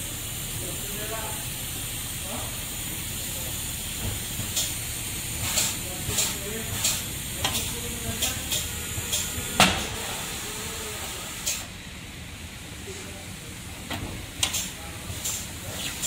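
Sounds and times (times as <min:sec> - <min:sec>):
compressed air hissing: 0:00.0 - 0:11.8, 0:14.5 - 0:16.0.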